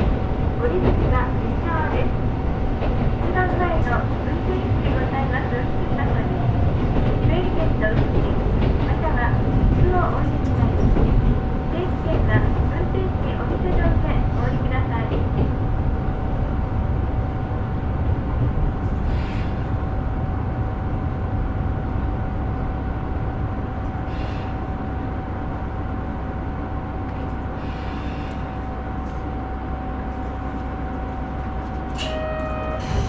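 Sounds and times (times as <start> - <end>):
railcar engine and wheels rumbling: 0.0 - 33.0.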